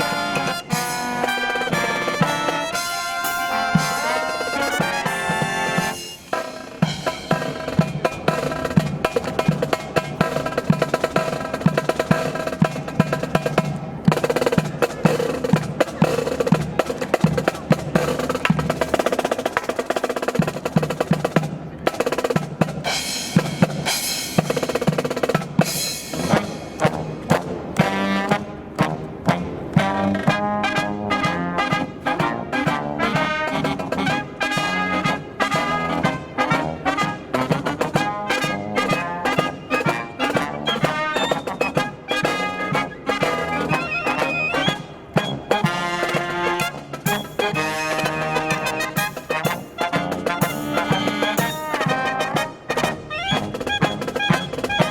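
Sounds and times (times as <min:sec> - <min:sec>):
brass band playing: 0:00.0 - 0:54.9
snare drum rolls and rimshots: 0:00.0 - 0:54.9.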